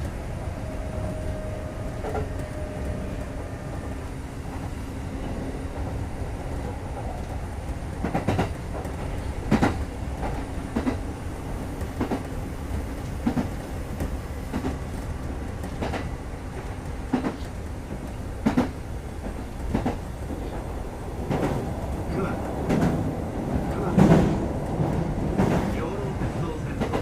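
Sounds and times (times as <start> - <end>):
train wheels rumbling: 0.0 - 27.0.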